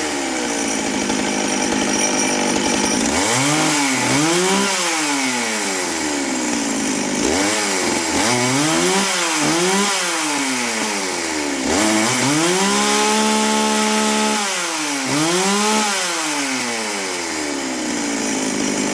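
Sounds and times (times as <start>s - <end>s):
chainsaw engine revving: 0.0s - 18.9s.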